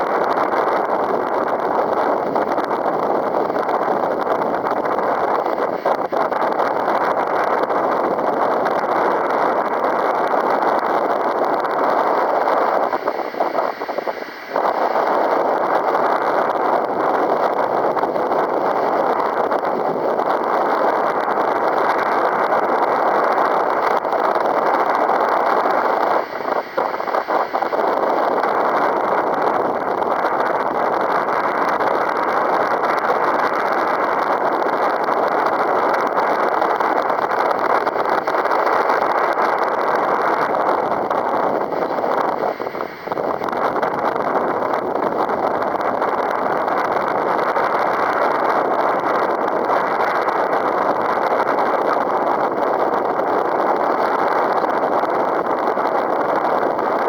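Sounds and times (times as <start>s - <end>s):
strong wind on microphone: 0.0s - 57.0s.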